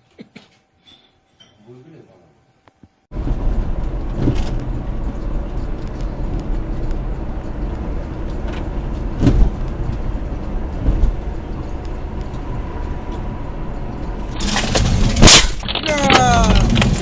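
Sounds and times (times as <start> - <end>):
car engine and road noise: 3.0 - 17.0.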